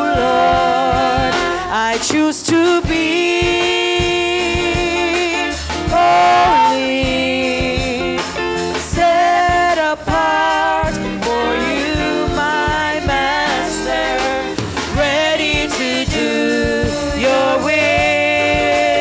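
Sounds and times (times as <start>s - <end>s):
drum kit: 0.0s - 19.0s
instrumental accompaniment: 0.0s - 19.0s
women singing worship song: 0.0s - 19.0s.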